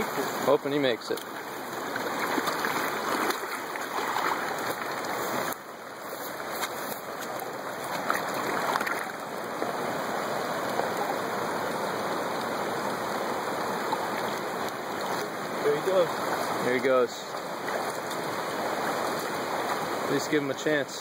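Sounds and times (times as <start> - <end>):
small water splashes: 0.0 - 20.6
river water flowing and lapping: 0.0 - 21.0.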